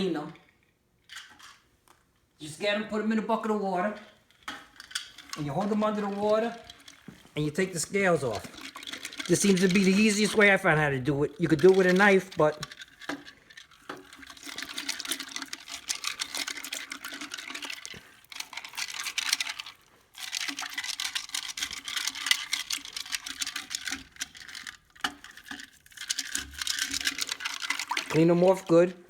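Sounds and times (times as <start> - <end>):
water sloshing: 4.0 - 29.0
fish scaler scraping scales: 4.1 - 29.0.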